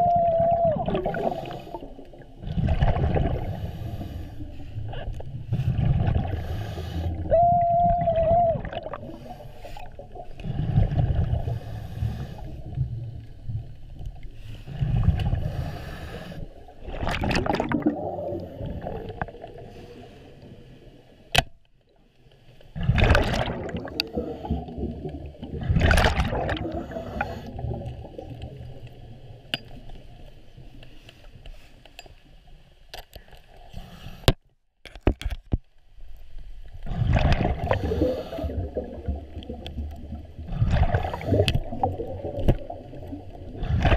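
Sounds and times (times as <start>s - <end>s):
underwater water rushing: 0.0s - 21.2s, 22.5s - 30.8s, 36.6s - 43.9s.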